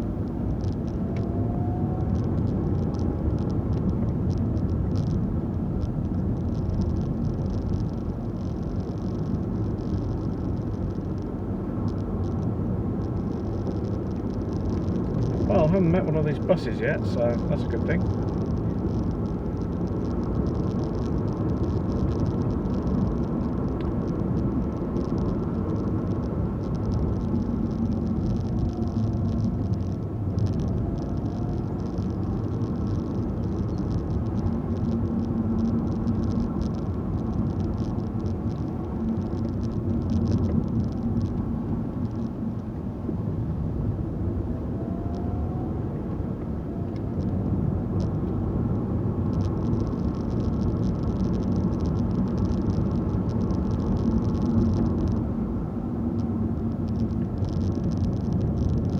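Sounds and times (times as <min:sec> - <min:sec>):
car engine and tyre road noise: 0:00.0 - 0:58.9.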